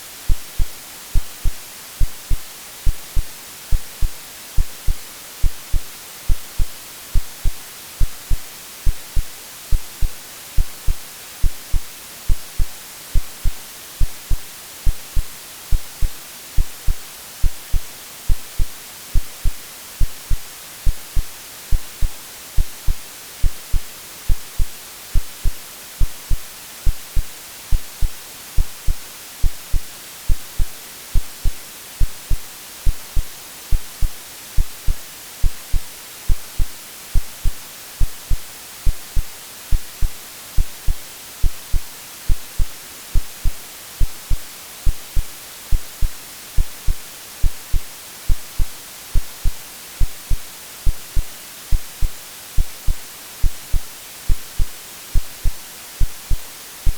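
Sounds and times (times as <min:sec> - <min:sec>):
white noise hiss: 0:00.0 - 0:56.9
low heartbeat thumps: 0:00.3 - 0:56.9.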